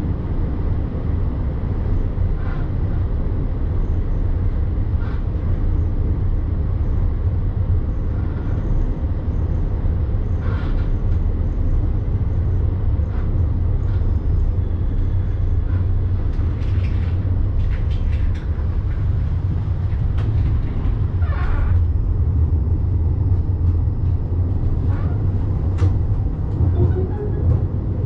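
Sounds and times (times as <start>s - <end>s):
tram rumbling: 0.0s - 28.0s.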